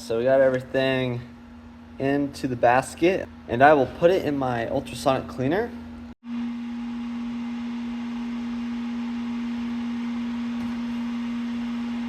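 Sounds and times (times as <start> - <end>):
ultrasonic cleaner humming: 0.0 - 12.0.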